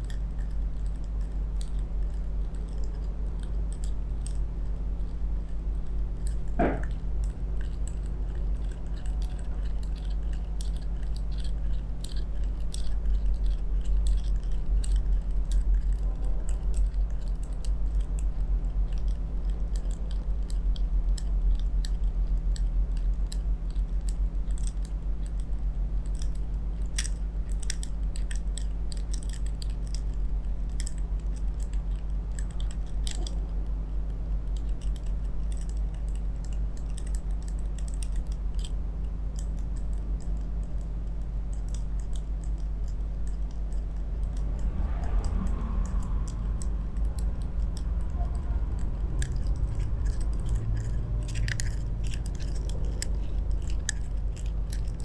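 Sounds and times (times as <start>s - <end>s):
metal rollers clicking on skin: 0.0s - 55.0s
steady low hum: 0.0s - 55.0s.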